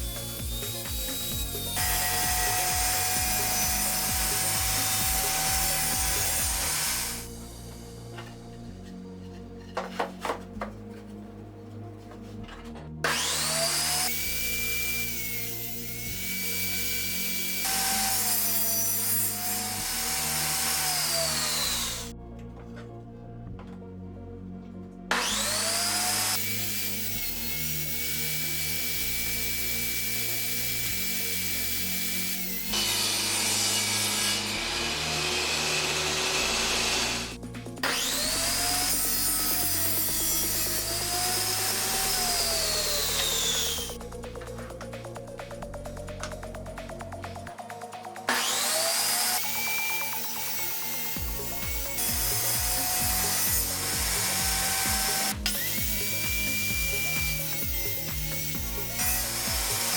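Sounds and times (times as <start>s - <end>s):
power tool whining on wood: 0.0s - 10.7s, 12.4s - 22.8s, 25.0s - 59.9s
background music: 0.0s - 59.9s.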